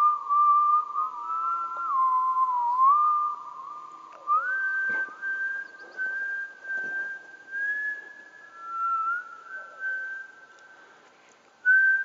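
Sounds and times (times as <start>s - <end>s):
person whistling a slow tune: 0.0s - 10.8s, 11.6s - 12.0s.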